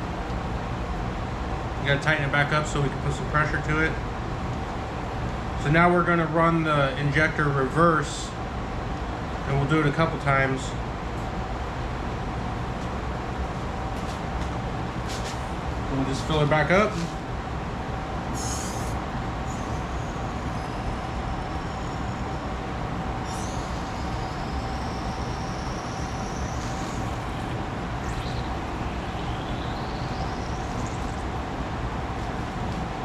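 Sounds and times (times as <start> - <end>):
machine drone hum: 0.0 - 33.0.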